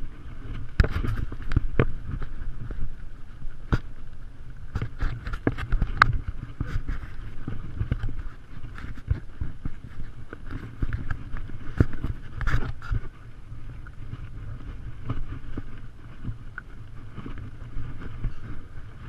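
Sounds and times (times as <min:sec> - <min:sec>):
horse hooves on rocky trail: 0:00.0 - 0:19.0
wind rumble on microphone: 0:00.0 - 0:19.0.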